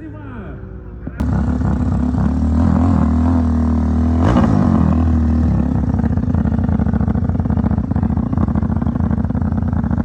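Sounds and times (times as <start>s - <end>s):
motorcycle engines running hard: 0.0s - 10.0s.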